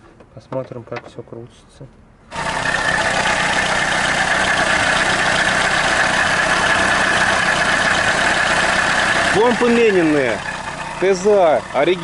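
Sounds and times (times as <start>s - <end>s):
car engine idling: 2.3s - 12.0s
high engine whine: 2.3s - 12.0s.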